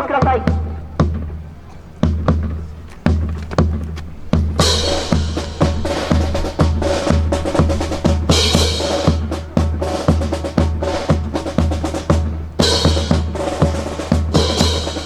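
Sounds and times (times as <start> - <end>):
bass drum beating: 0.3 - 15.0
snare drum rolls: 2.0 - 15.0.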